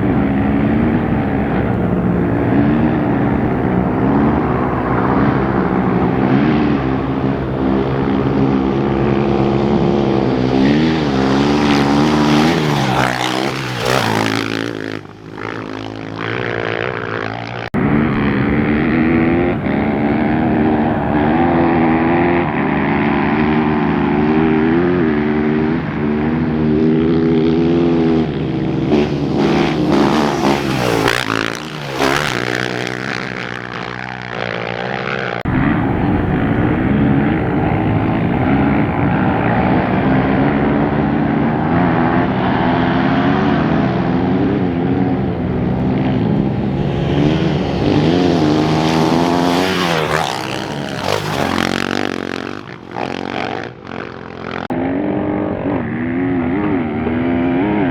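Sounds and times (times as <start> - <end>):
motorcycles revving and passing: 0.0 - 57.9.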